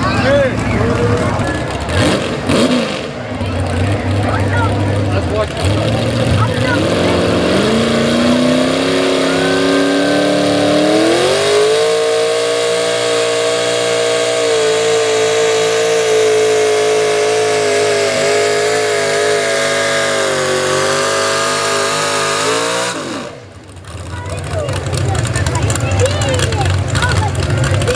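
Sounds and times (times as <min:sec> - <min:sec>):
pulling truck engine at full throttle: 0:00.0 - 0:27.9.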